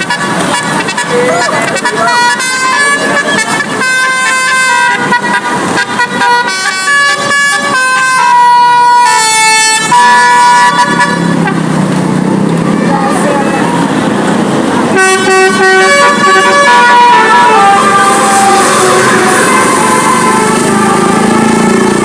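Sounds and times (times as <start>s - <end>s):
musical air horn melody: 0.0s - 11.6s, 14.9s - 22.0s
rumbling engine: 0.0s - 22.0s.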